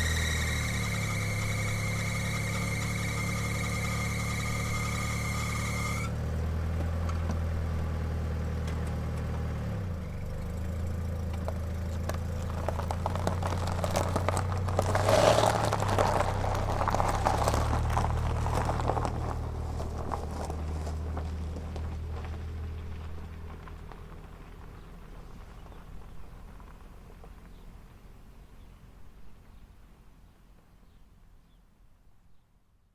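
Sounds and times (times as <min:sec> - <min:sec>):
car engine idling: 0:00.0 - 0:30.6.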